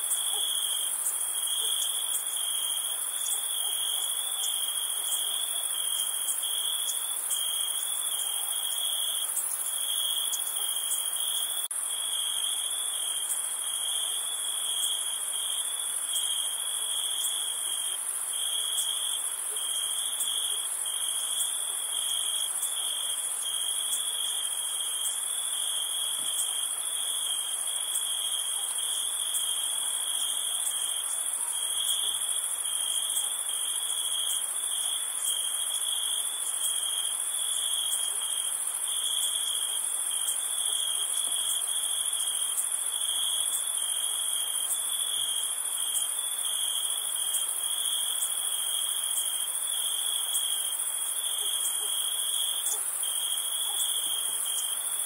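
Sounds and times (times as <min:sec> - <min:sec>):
cricket trill: 0:00.0 - 0:55.0.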